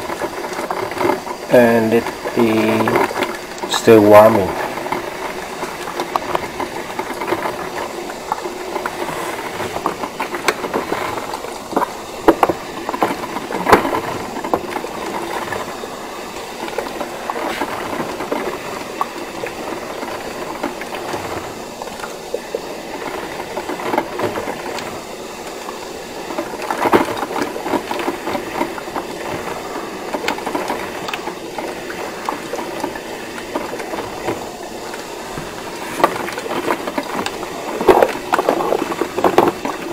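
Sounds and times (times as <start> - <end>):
coffee maker rattling: 0.0 - 39.9.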